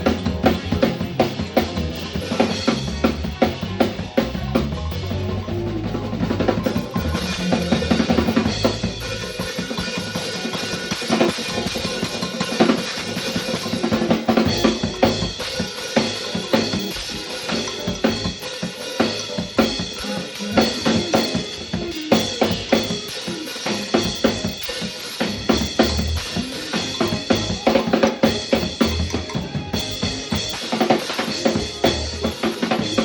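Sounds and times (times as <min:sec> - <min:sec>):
drum kit groove: 0:00.0 - 0:33.0.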